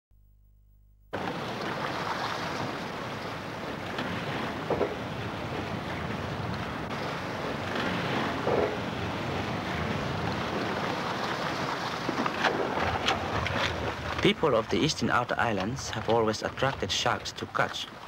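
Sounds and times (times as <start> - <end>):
sea wash: 1.1 - 18.0.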